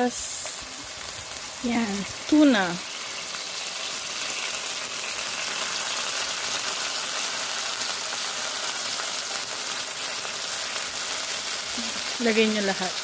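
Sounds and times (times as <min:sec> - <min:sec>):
food frying in oil: 0:00.0 - 0:13.0.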